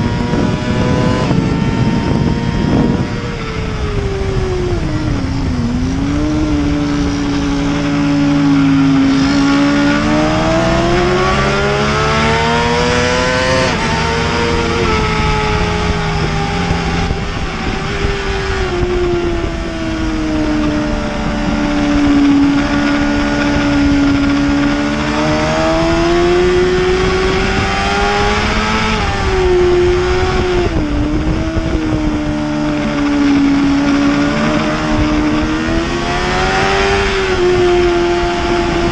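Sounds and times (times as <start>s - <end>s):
racing motorcycle engine: 0.0s - 38.9s.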